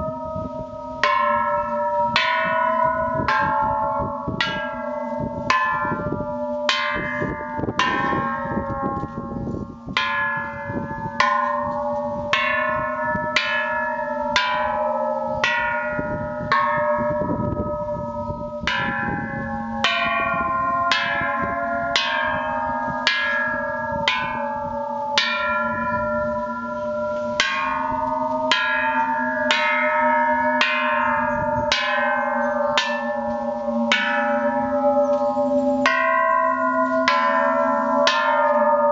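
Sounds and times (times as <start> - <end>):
temple bells ringing: 0.0 - 38.9.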